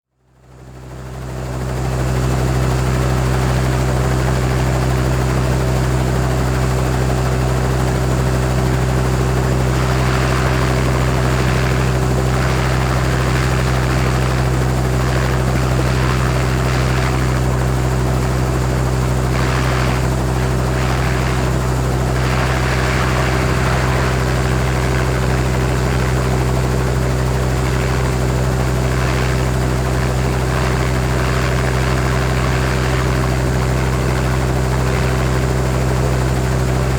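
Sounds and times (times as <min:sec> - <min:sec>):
helicopter idling: 0:00.5 - 0:36.9.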